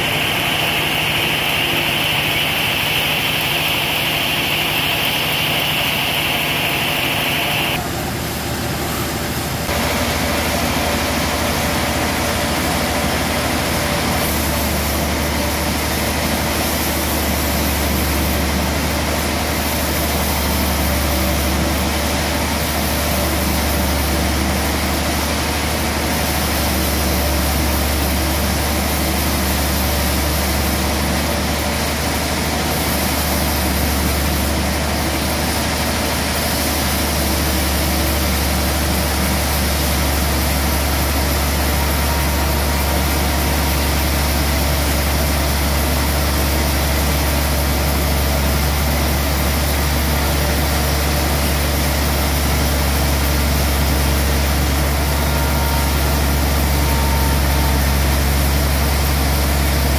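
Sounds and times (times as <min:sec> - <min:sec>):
sawmill running: 0:00.0 - 0:59.9.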